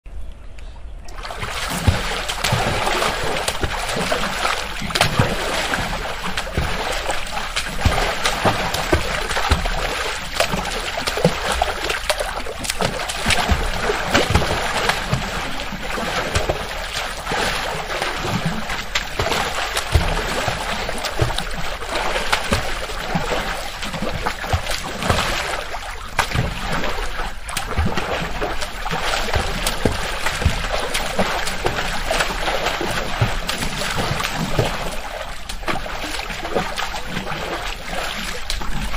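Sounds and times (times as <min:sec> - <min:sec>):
children playing in pool: 0:01.1 - 0:38.9
water splashing: 0:01.1 - 0:38.9.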